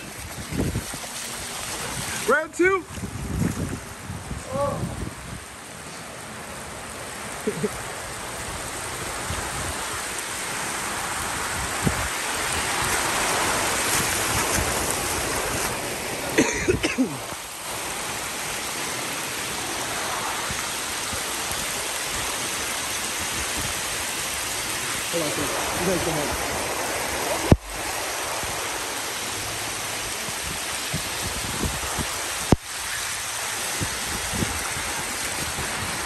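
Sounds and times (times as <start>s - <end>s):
water rushing down gutter: 0.0s - 4.2s, 6.4s - 36.0s
rain falling: 0.0s - 36.0s.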